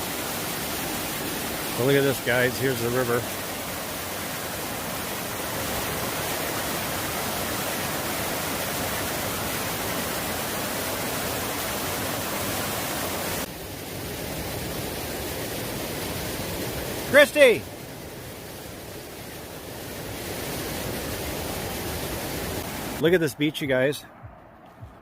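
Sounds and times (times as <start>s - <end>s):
river water rushing: 0.0s - 23.1s.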